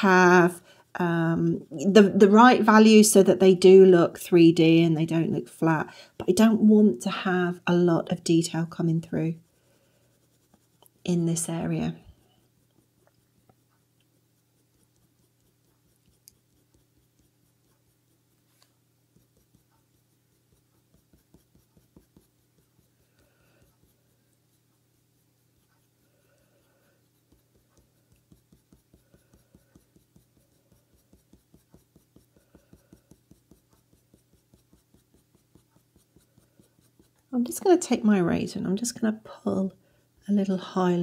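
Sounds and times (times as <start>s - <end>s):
pencil scratching on paper: 0.0s - 39.0s.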